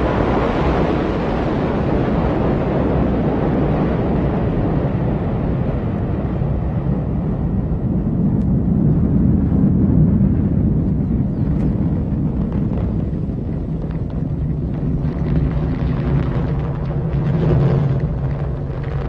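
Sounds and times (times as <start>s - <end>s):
rocket engine deep rumble: 0.0s - 19.0s.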